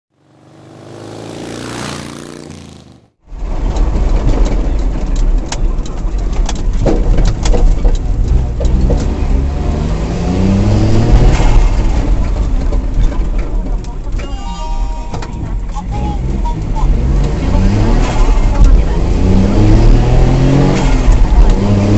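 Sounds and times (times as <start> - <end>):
vehicle engine rumble: 0.1 - 21.9.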